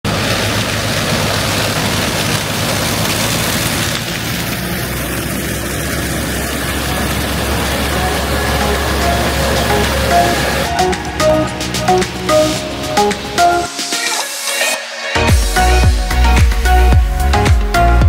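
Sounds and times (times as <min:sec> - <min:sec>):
heavy engine drone: 0:00.1 - 0:18.0.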